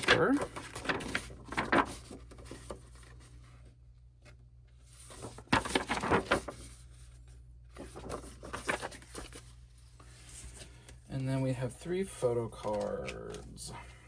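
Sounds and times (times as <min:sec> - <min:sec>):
paper and plastic rustling: 0:00.0 - 0:03.7, 0:04.8 - 0:13.9
low room hum: 0:00.0 - 0:14.0.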